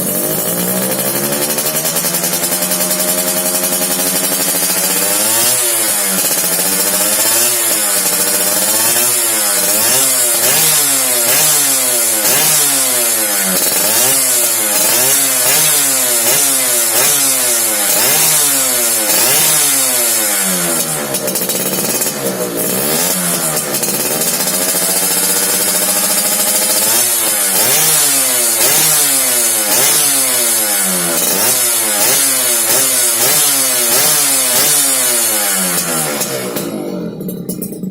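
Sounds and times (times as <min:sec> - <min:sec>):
two-stroke motorcycle engine revving: 0:00.0 - 0:37.9.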